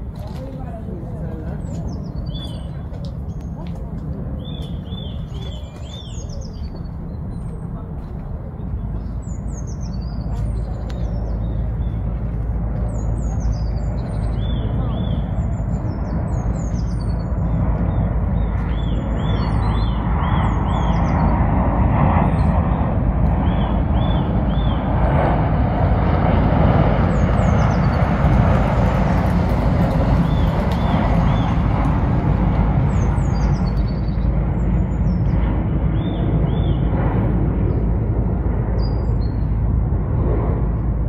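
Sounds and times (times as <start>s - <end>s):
low outdoor rumble: 0.0s - 41.0s
small birds chirping: 0.2s - 25.4s, 26.9s - 37.0s, 37.6s - 39.6s.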